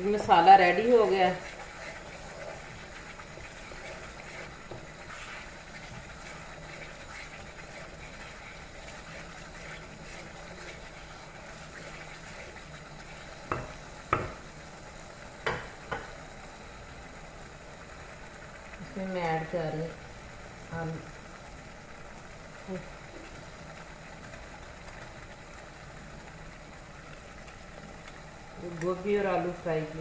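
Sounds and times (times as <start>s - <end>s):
masala frying in a pan: 0.0s - 30.0s
stirring in a pan: 0.0s - 30.0s.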